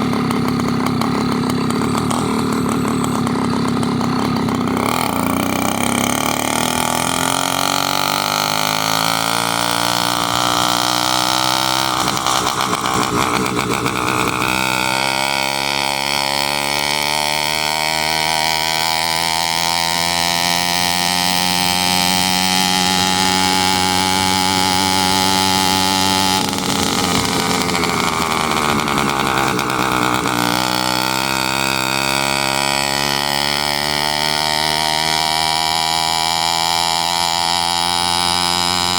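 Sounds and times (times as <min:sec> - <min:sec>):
small motor engine revving: 0:00.0 - 0:38.9.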